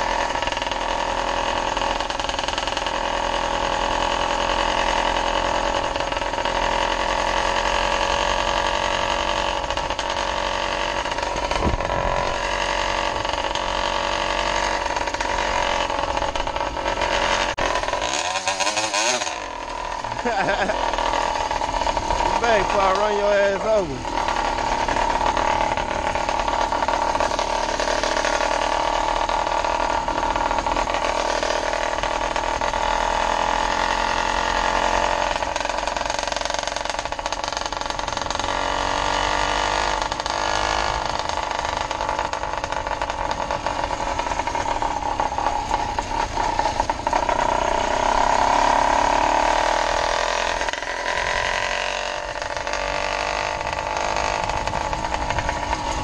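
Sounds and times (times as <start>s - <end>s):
two-stroke bicycle engine buzzing: 0.0s - 56.0s.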